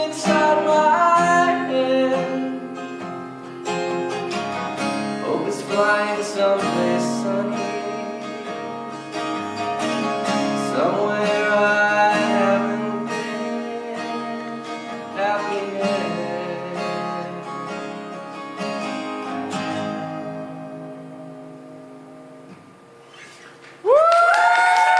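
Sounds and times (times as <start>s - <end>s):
acoustic guitar strummed and picked: 0.0s - 23.9s.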